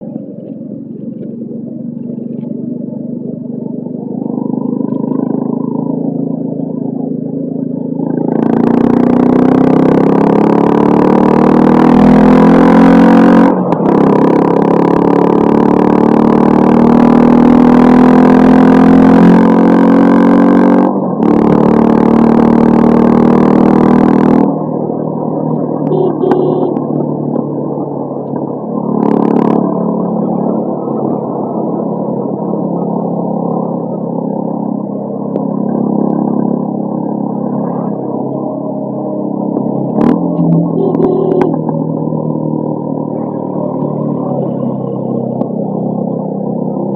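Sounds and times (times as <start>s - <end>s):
motorcycle accelerating through gears: 3.2s - 46.9s.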